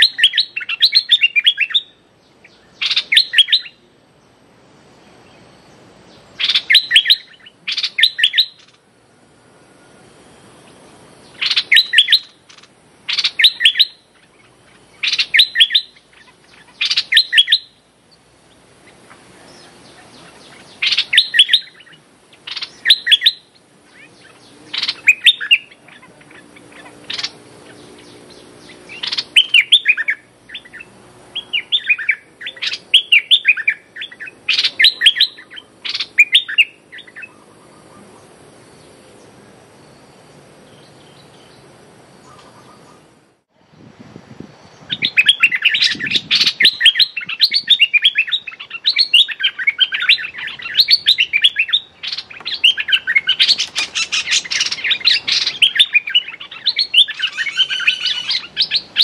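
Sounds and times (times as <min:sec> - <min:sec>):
birds chattering calls: 0:00.0 - 0:44.0, 0:44.6 - 0:59.0.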